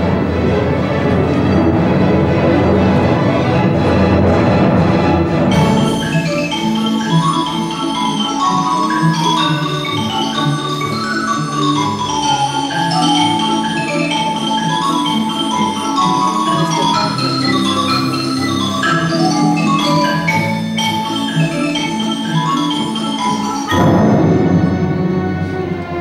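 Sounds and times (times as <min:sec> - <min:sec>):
mallet percussion line: 0:00.0 - 0:26.0.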